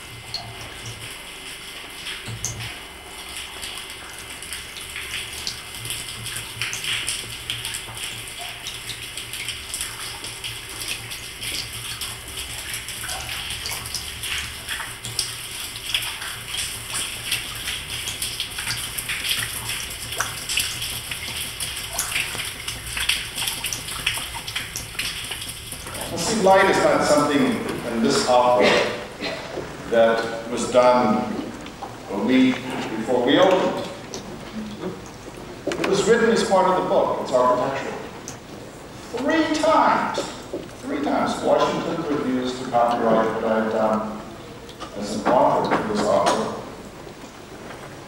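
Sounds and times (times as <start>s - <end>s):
running water: 0.0s - 48.0s
water drips and splashes: 0.0s - 48.0s.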